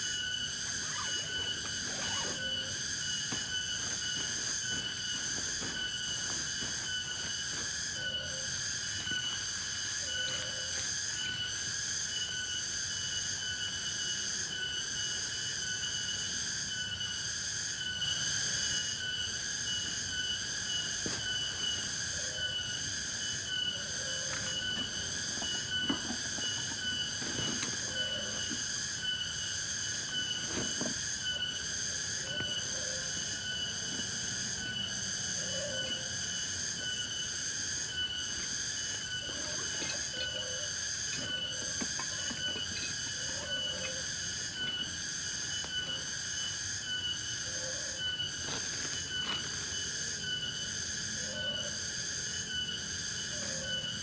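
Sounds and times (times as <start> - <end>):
night insect chorus: 0.0 - 54.0.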